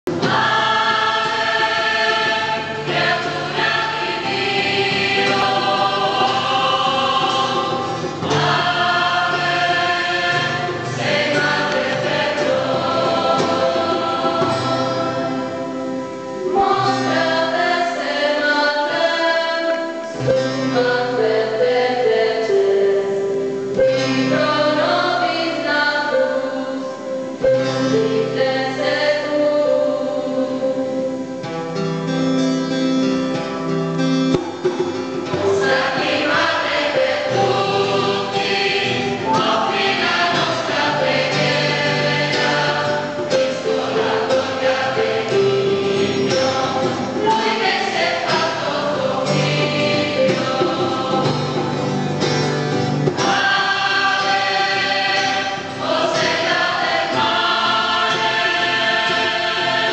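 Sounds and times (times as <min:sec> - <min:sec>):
choir singing a hymn: 0:00.1 - 0:59.9.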